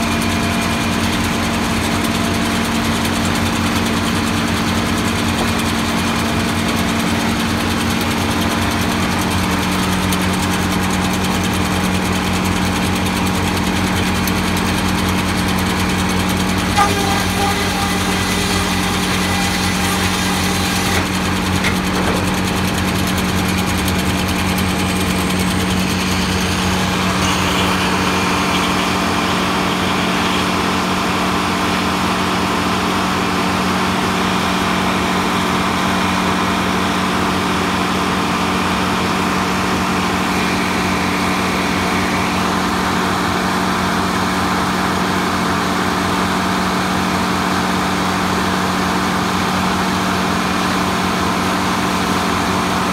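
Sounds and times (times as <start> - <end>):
sawmill machinery droning: 0.0 - 52.9.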